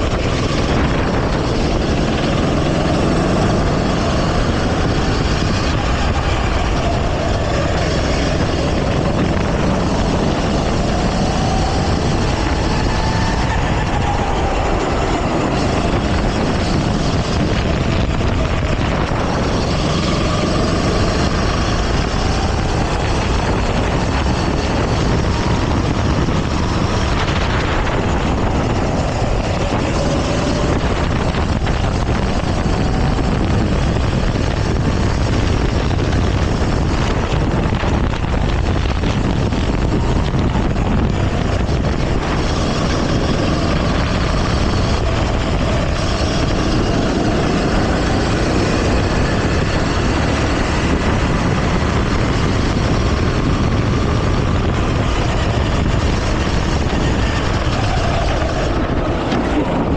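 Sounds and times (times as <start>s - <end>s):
go-kart engine racing: 0.0s - 59.9s
wind and track noise: 0.0s - 59.9s.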